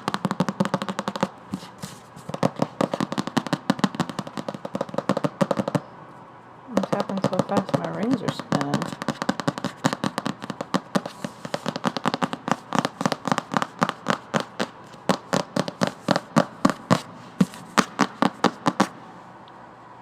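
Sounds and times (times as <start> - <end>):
fingernails tapping on a book: 0.0 - 5.8, 6.7 - 19.0.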